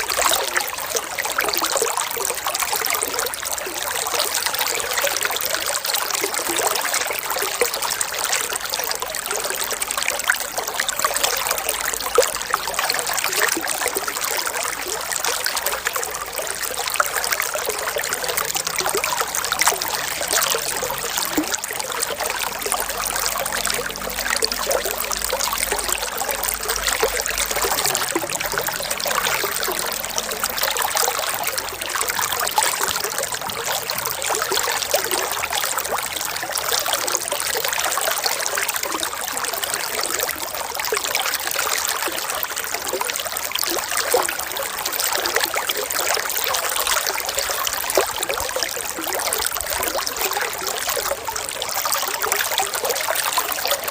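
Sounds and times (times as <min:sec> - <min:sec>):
water trickling and splashing: 0:00.0 - 0:53.9.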